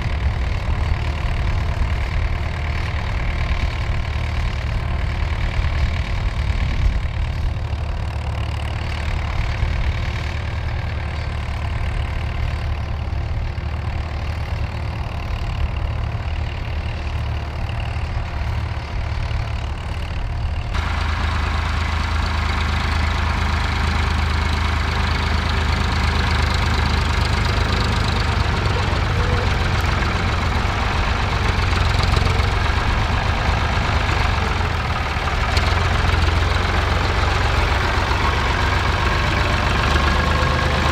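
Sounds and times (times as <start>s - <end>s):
tractor diesel engines running: 0.0s - 40.9s.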